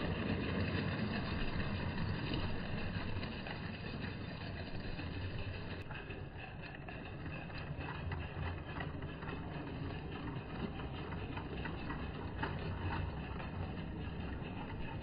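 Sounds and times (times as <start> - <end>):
faint irregular clicks: 0.0 - 15.0
model steam locomotive rumbling: 0.0 - 15.0.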